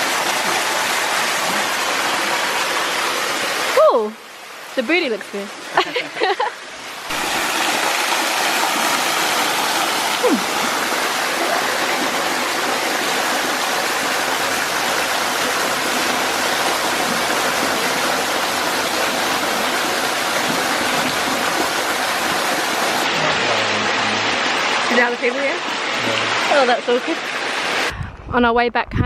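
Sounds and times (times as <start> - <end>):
waterfall rushing: 0.0 - 4.6, 5.5 - 27.9.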